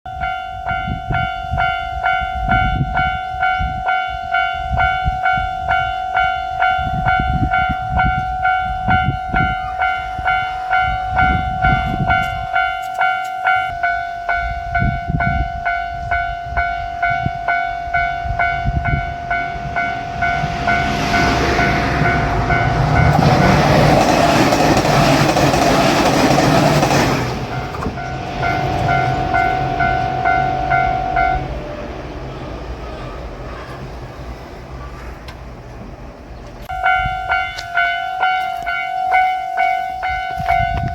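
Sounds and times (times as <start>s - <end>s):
level crossing warning bell: 0.1s - 33.4s, 36.7s - 40.9s
diesel railcar passing: 0.1s - 40.9s.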